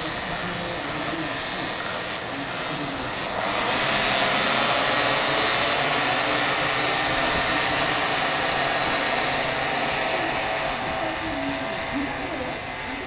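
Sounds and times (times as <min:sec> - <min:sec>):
scooter engines revving: 0:00.0 - 0:13.0.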